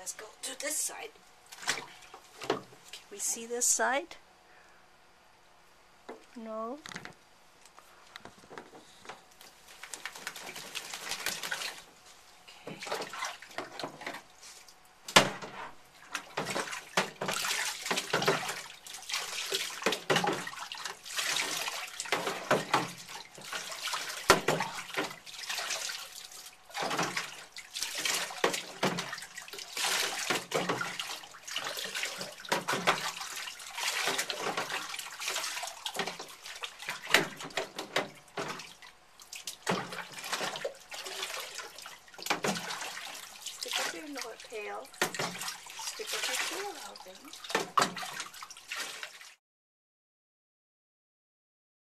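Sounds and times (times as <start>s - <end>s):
water splashing in a sink: 0.6s - 3.1s, 9.3s - 49.4s.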